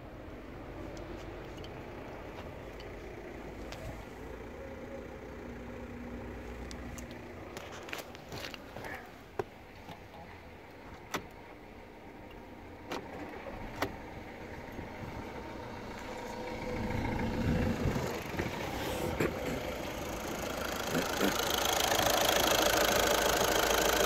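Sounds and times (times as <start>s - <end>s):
diesel engine starting and idling: 0.0s - 9.8s, 10.4s - 24.0s.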